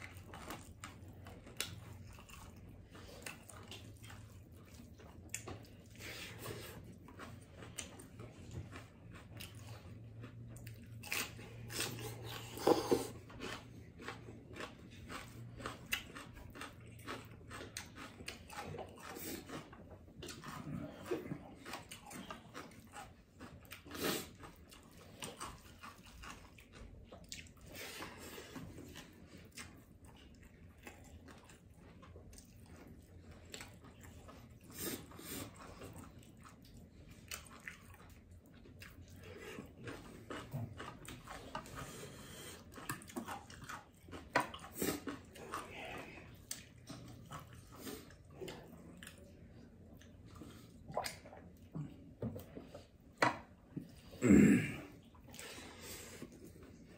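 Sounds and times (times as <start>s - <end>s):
wet chewing and smacking: 0.0s - 54.2s, 54.8s - 56.9s.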